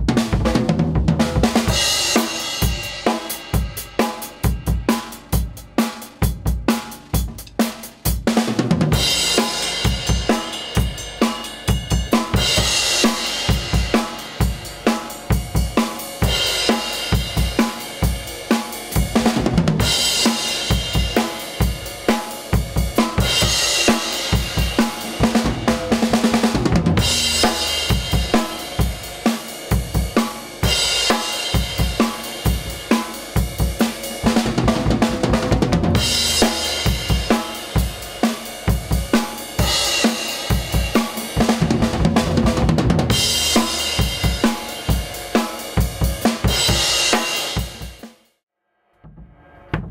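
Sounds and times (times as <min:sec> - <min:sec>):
drum kit groove: 0:00.0 - 0:48.3, 0:49.0 - 0:49.9.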